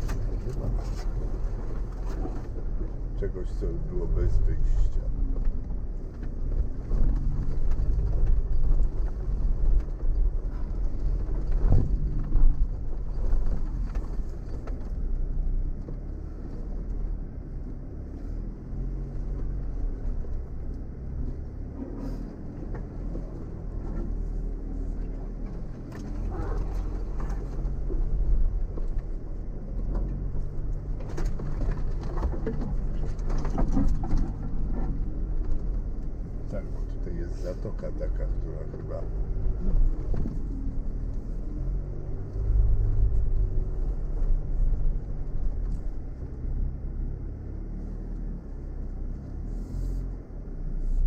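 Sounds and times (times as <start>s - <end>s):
knocks and rattles over bumps: 0.0s - 47.2s
off-road vehicle engine humming: 0.0s - 51.0s.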